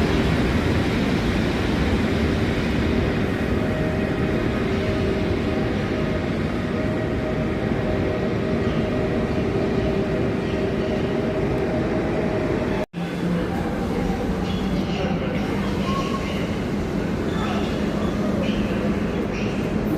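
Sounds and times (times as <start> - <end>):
electric locomotive humming: 0.0 - 19.9.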